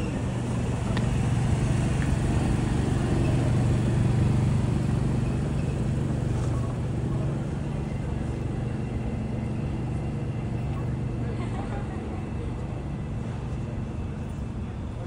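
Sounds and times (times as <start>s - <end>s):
street noise: 0.0s - 15.0s
vehicle engine drone: 0.0s - 15.0s.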